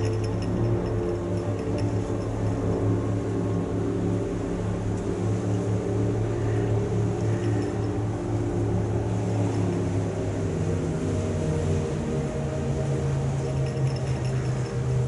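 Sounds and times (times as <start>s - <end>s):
ship diesel engines droning: 0.0s - 15.0s.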